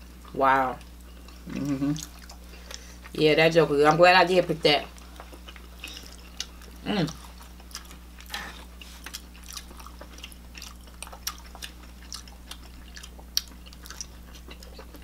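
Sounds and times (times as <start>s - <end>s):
chewing and biting bread: 0.0s - 3.2s, 4.9s - 15.0s.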